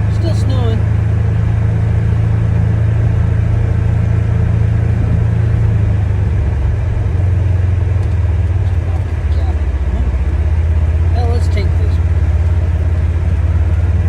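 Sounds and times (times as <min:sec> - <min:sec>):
engine droning inside cab: 0:00.0 - 0:14.0.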